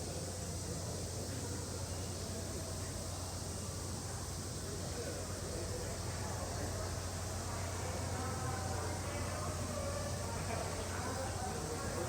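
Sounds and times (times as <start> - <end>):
faint indistinct voices: 0.0 - 12.0.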